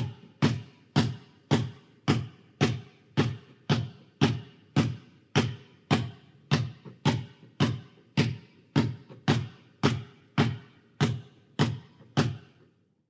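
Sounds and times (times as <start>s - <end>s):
ball bouncing with hollow boom: 0.0s - 12.7s.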